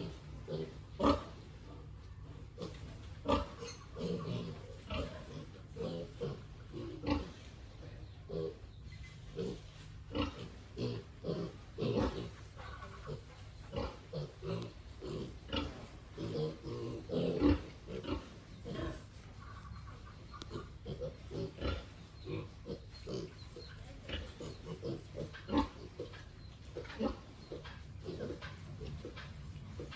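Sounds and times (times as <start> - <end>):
pigs grunting: 0.0 - 29.9.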